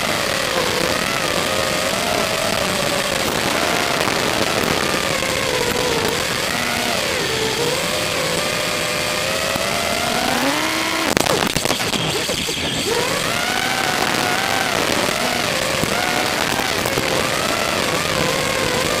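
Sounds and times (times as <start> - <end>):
quadcopter motors whining: 0.0 - 19.0
short crackle: 0.0 - 19.0
steady hiss: 0.0 - 19.0.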